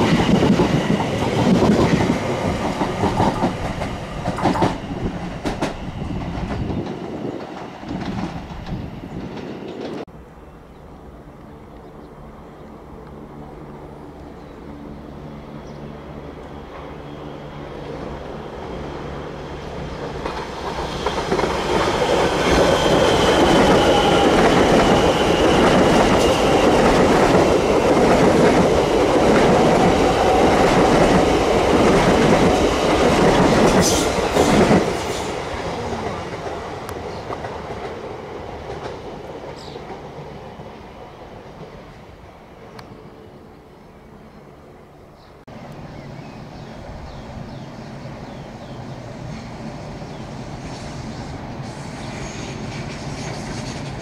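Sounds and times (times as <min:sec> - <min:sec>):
train running past: 0:00.0 - 0:54.0.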